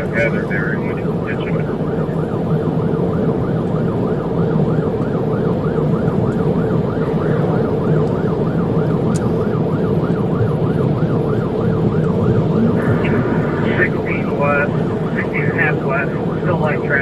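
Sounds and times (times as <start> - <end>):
engine and road noise: 0.0 - 17.0
police siren yelping: 0.0 - 17.0.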